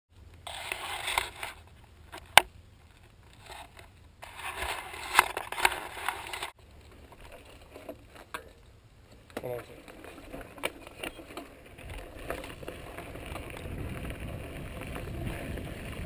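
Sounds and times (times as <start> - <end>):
rubbing and scraping on camera: 0.4 - 8.6, 9.2 - 16.0.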